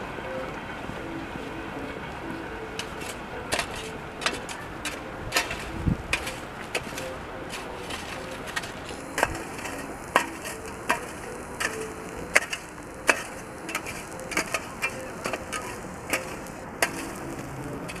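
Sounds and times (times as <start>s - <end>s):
outdoor background hiss: 0.0s - 18.0s
footsteps on snow: 1.3s - 18.0s.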